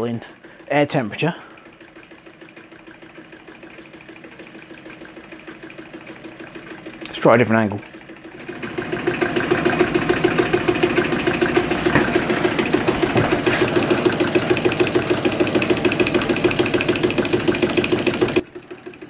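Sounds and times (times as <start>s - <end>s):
stirling engine mechanical beat: 0.0s - 19.0s.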